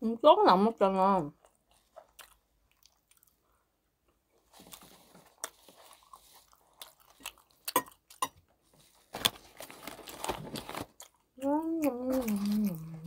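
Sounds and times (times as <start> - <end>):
person chewing crunchy food: 1.4 - 3.6, 4.4 - 13.0.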